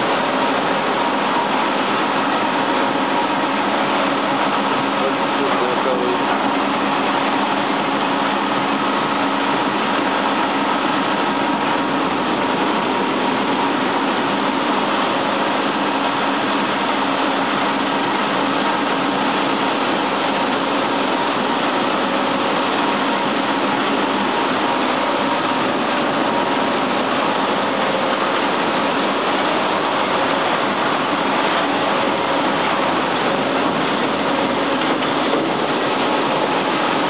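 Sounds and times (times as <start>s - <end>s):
industrial machinery din: 0.0s - 37.0s.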